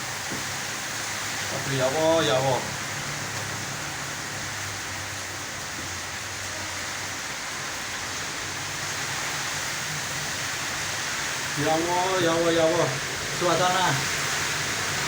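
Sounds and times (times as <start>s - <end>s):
heavy rain in wind: 0.0s - 15.0s.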